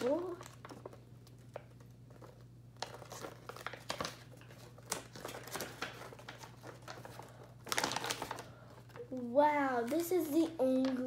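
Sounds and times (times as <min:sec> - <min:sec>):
wrapper crinkling: 0:00.0 - 0:09.2.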